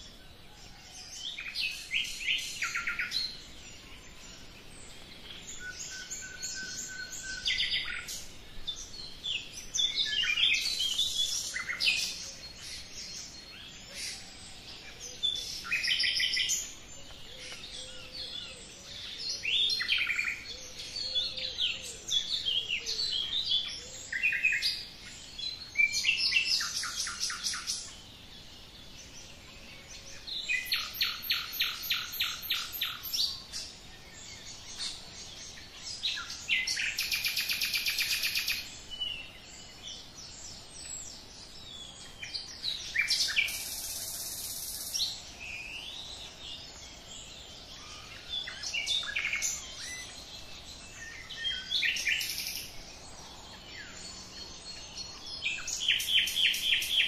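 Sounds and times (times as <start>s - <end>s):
songbirds singing trills: 0.0s - 57.0s.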